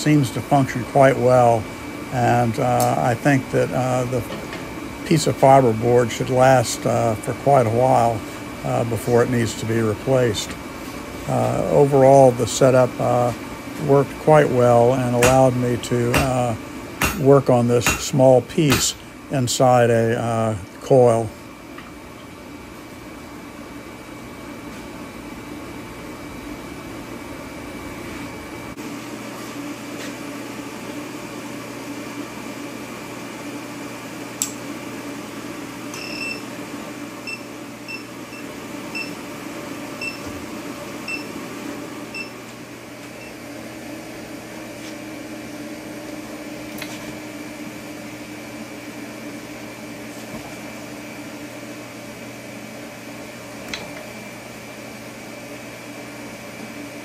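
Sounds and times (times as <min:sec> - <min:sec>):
fan noise: 0:00.0 - 0:57.0
induction heater hum: 0:00.0 - 0:57.0.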